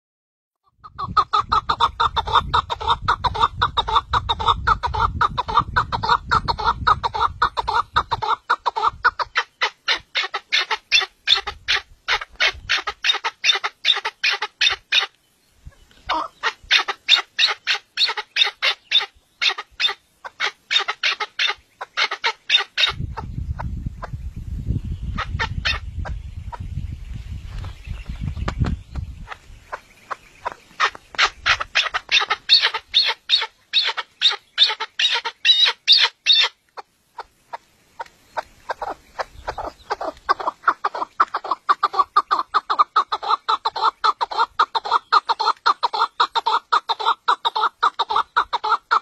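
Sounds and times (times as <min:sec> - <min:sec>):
partridge clucking calls: 0:00.6 - 0:24.2, 0:25.1 - 0:26.7, 0:27.6 - 0:49.0.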